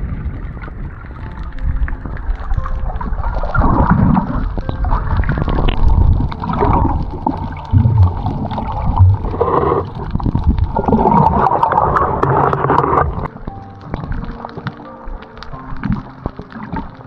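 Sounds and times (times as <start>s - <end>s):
water sloshing and gurgling: 0.0s - 17.0s.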